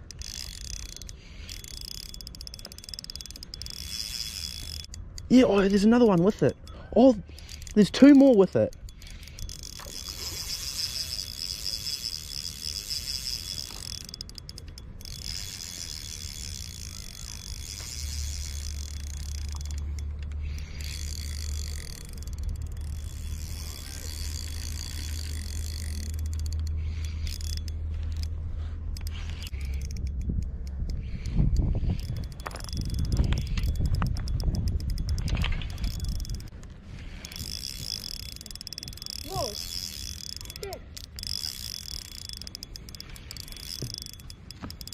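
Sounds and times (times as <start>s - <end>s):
spinning reel being cranked: 0.0s - 44.9s.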